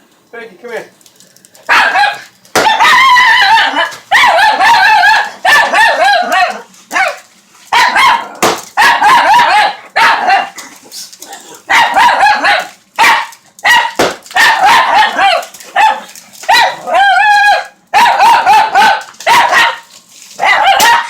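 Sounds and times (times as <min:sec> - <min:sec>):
dog howl-barking: 0:01.7 - 0:07.2, 0:07.8 - 0:10.6, 0:11.6 - 0:19.8, 0:20.4 - 0:21.0.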